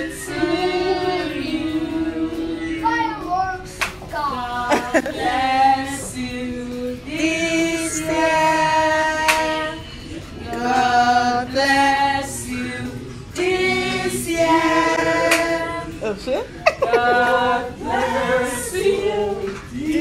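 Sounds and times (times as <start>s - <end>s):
group singing unaccompanied: 0.0s - 20.0s.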